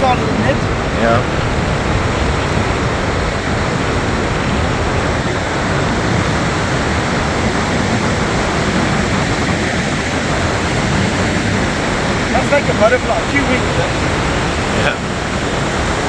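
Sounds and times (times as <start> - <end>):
surf on beach: 0.0 - 16.0
wind: 0.0 - 16.0.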